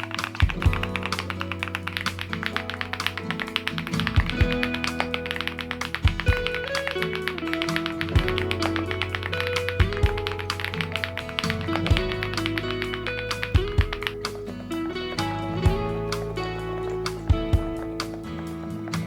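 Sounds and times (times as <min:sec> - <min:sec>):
background music: 0:00.0 - 0:19.0
rapid typing on mechanical keyboard: 0:00.0 - 0:19.0.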